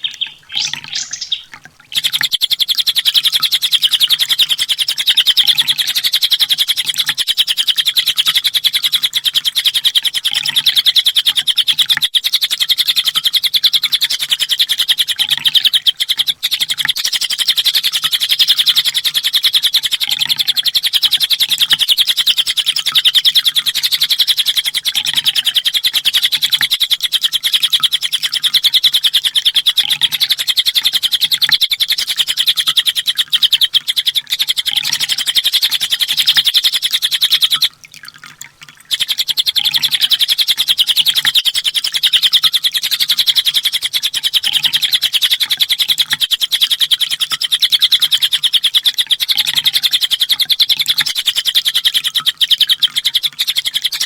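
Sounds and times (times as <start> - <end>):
bird twittering song: 0.0 - 54.0.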